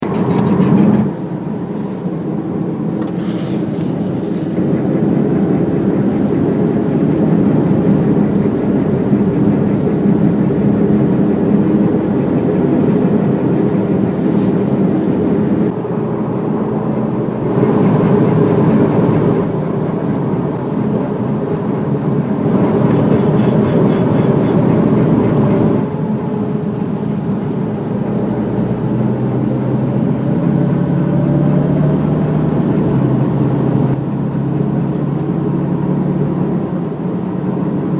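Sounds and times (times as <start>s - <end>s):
car road and engine noise: 0.0s - 37.9s.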